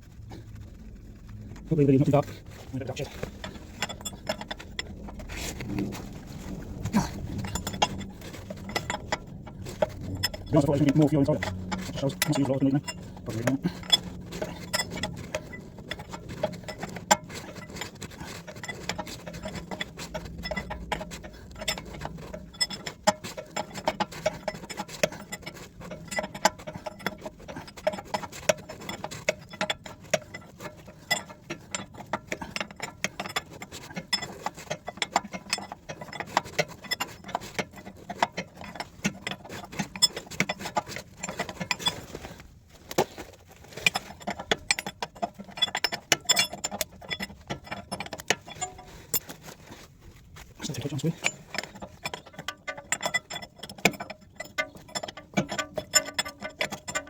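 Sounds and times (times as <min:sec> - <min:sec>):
metallic clicking of hand tools: 0:06.6 - 0:42.2, 0:42.9 - 0:49.5, 0:50.7 - 0:57.0.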